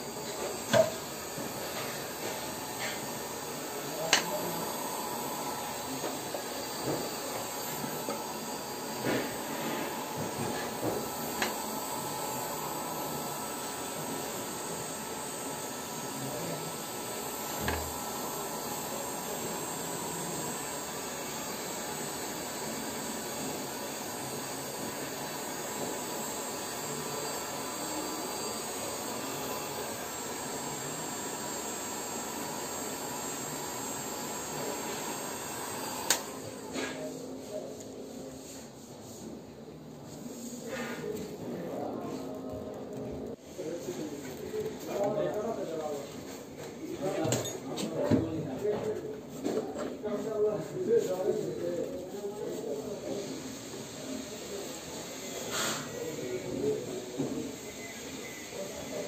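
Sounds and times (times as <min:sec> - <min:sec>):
machinery hum and hiss: 0:00.0 - 0:59.0.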